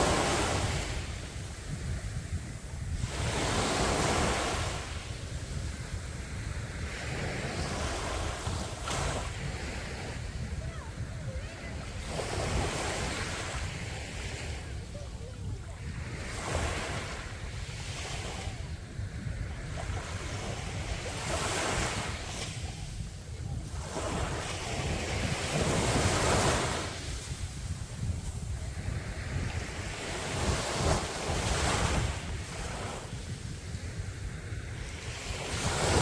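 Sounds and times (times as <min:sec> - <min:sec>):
sea waves breaking on beach: 0:00.0 - 0:36.0
wind rumble on microphone: 0:00.0 - 0:36.0.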